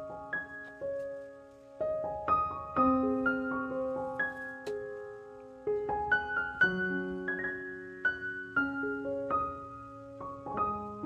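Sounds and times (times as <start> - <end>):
slow solo piano melody: 0.0 - 11.0.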